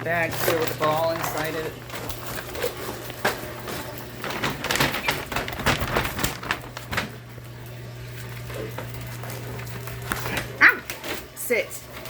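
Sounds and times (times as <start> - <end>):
bag crinkling: 0.1 - 11.0.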